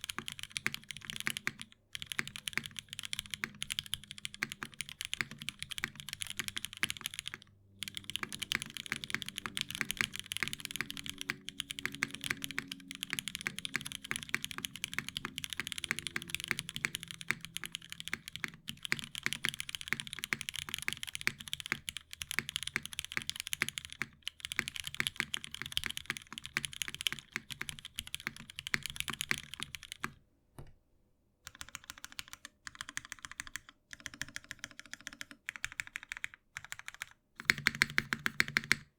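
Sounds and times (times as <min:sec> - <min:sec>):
mechanical keyboard typing: 0:00.0 - 0:30.2, 0:31.5 - 0:38.9.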